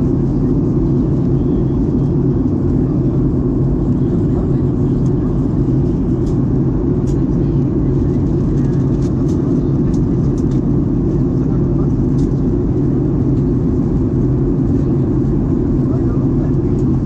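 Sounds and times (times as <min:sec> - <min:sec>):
airplane cabin drone: 0:00.0 - 0:17.0.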